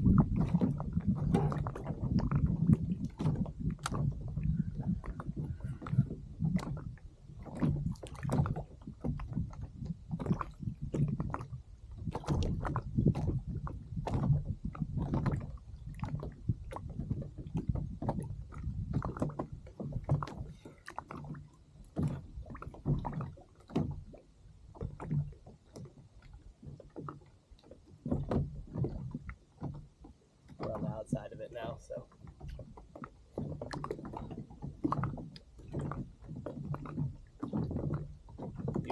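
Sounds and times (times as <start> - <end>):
waves slapping against kayak hull: 0.0 - 38.9.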